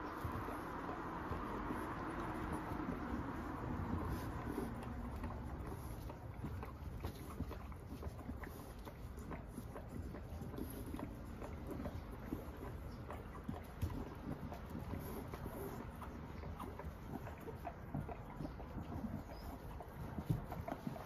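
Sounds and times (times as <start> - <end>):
puppies scuffling on carpet: 0.0 - 21.0.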